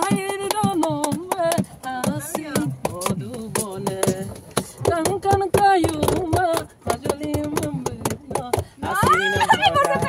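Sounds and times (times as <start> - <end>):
hand claps: 0.0 - 10.0
people singing: 0.0 - 10.0.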